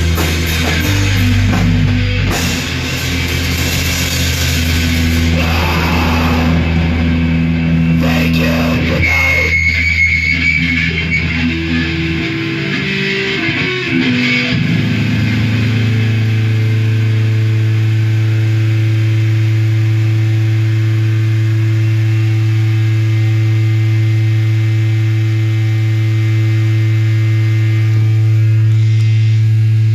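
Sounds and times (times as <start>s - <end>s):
electric guitar and bass notes: 0.0s - 29.9s
loud amplifier hum: 0.0s - 29.9s.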